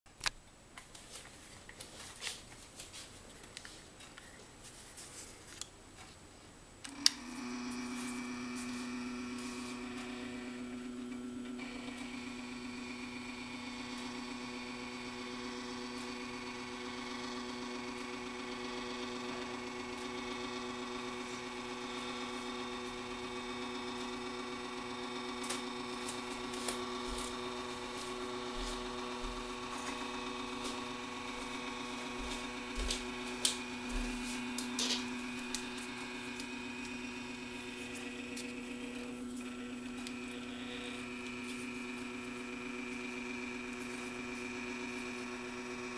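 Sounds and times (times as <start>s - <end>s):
stepper motor whine: 6.9s - 45.9s.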